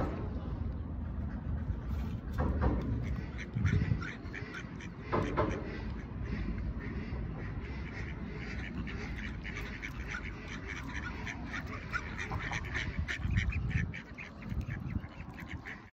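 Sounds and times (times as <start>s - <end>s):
steady low rumble: 0.0s - 15.9s
ducks quacking: 0.9s - 15.9s.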